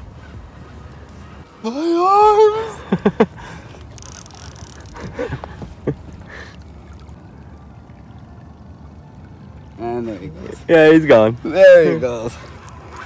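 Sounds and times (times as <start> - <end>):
river water washing: 0.0 - 13.0
wind: 0.0 - 13.0.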